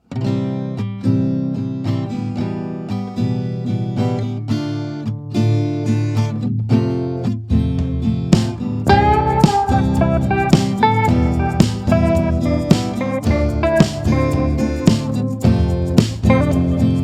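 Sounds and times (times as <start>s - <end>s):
acoustic guitar strumming: 0.1s - 17.0s.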